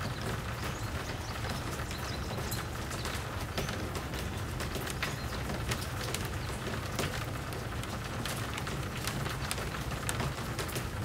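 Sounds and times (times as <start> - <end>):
rain drops ticking: 0.0 - 11.0
rain patter: 0.0 - 11.0.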